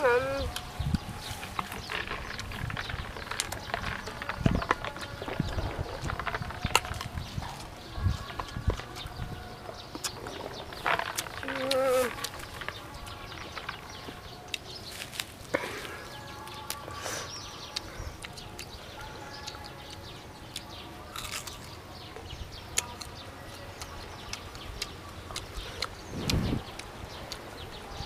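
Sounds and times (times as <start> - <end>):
crunchy chewing: 0.0 - 28.0
faint birds calling: 0.0 - 28.0.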